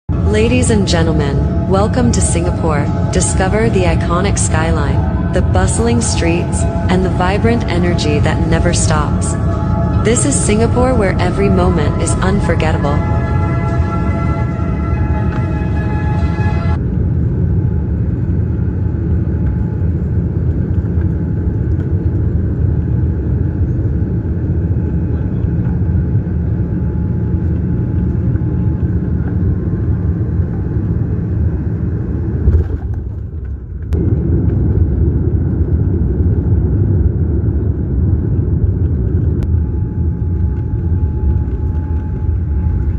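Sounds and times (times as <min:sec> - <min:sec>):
airliner cabin rumble: 0:00.1 - 0:42.9.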